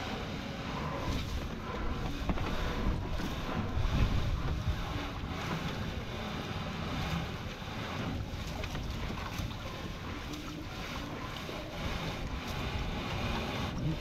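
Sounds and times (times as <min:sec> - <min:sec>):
sea water sloshing around boat: 0:00.0 - 0:14.0
wind buffeting microphone: 0:00.0 - 0:14.0.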